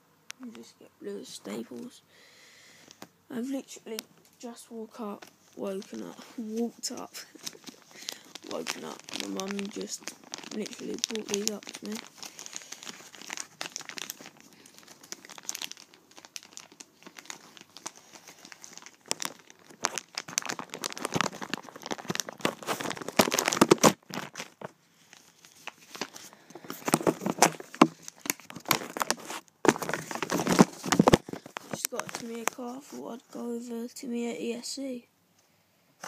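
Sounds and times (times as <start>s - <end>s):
plastic bag crinkling: 2.8s - 33.4s.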